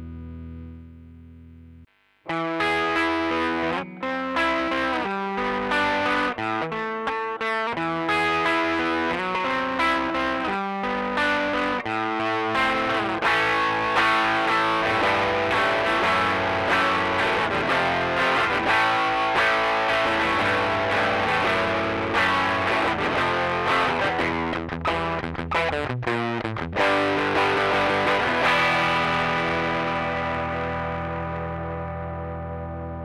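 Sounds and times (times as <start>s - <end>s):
overdriven electric guitar: 0.0s - 33.0s.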